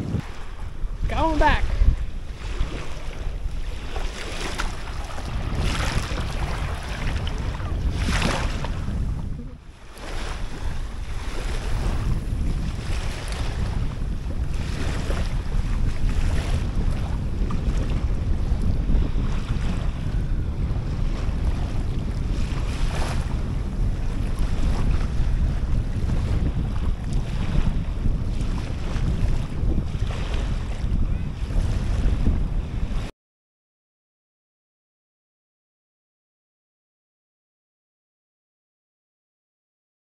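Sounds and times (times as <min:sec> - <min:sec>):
small waves washing on sand: 0:00.0 - 0:32.2
wind buffeting microphone: 0:00.0 - 0:33.1.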